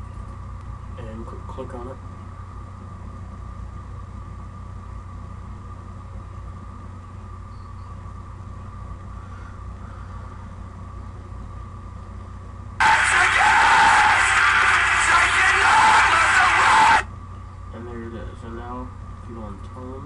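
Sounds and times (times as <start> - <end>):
low hum and hiss: 0.0 - 20.0.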